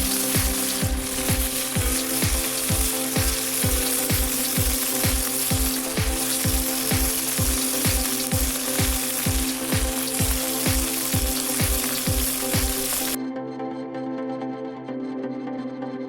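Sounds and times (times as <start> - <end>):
chicken sizzling in a pot: 0.0 - 13.2
background music with steady beat: 0.0 - 16.0.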